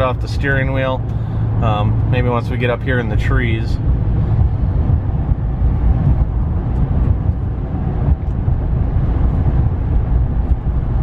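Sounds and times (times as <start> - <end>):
road and wind noise in a cab: 0.0 - 11.0.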